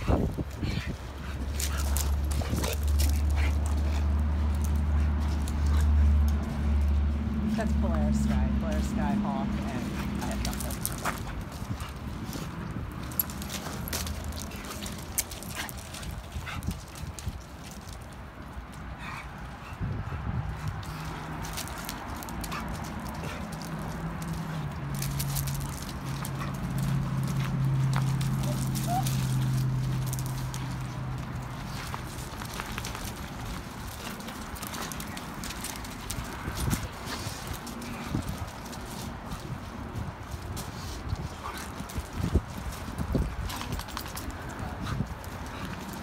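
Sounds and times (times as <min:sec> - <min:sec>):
dogs sniffing and scuffling on gravel: 0:00.0 - 0:46.0
paws clicking and scraping: 0:00.0 - 0:46.0.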